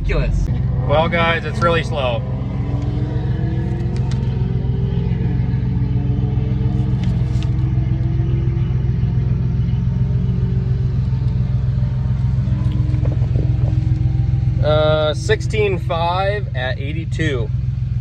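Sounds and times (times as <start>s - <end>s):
pickup engine rumbling: 0.0s - 18.0s.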